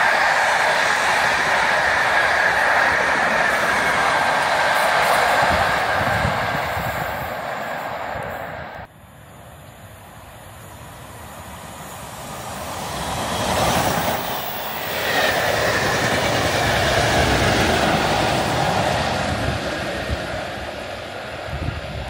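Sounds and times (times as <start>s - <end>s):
diesel locomotive engine: 0.0s - 22.0s
train coaches passing: 0.0s - 22.0s.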